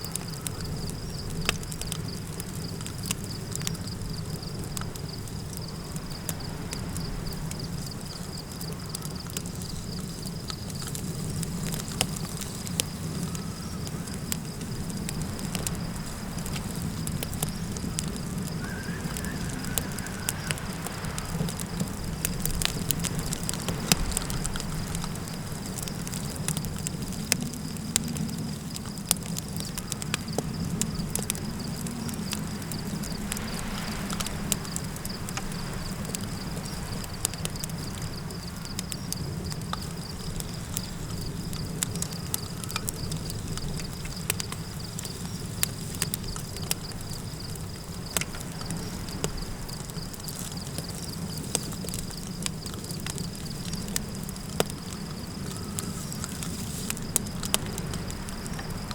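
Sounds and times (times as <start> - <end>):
campfire crackling: 0.0 - 58.9
insect trill: 0.0 - 58.9
low wind rumble: 0.0 - 58.9.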